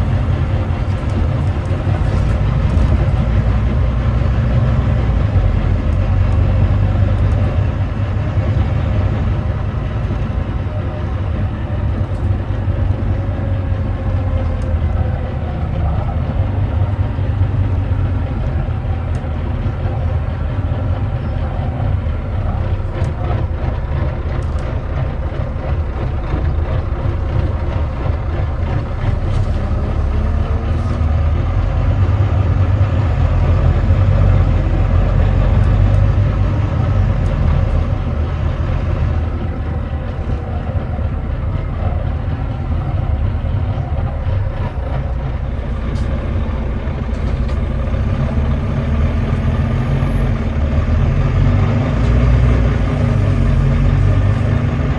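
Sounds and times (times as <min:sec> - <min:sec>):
bus diesel engine droning: 0:00.0 - 0:54.9.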